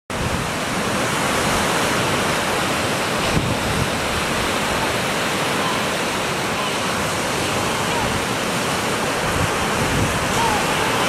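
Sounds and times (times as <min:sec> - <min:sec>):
waves washing up beach: 0:00.1 - 0:11.0.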